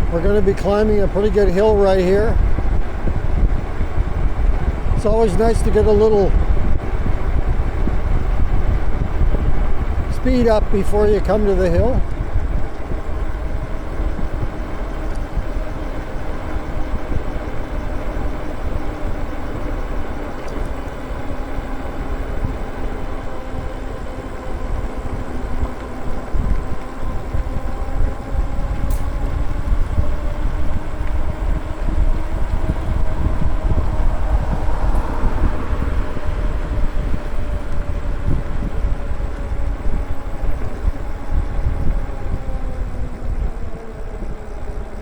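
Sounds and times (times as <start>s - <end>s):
tyre rumble on road: 0.0s - 45.0s
wind buffeting microphone: 0.0s - 45.0s.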